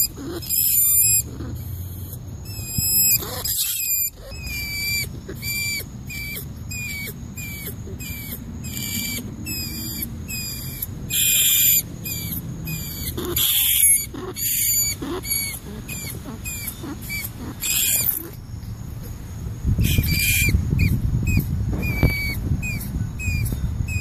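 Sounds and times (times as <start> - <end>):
rat squeaking: 0.0 - 18.6, 19.8 - 24.0.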